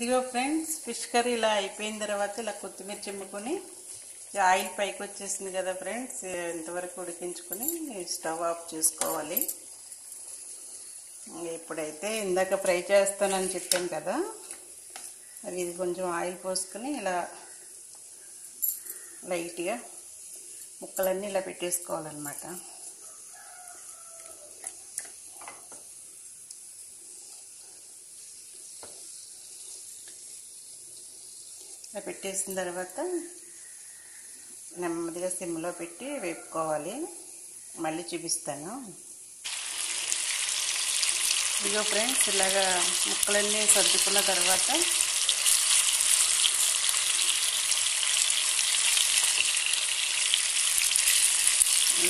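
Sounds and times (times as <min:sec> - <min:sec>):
fish sizzling in oil: 0:00.0 - 0:52.0.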